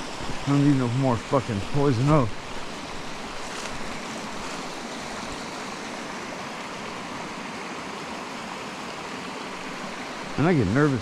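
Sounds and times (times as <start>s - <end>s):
creek water running over rocks: 0.0s - 11.0s.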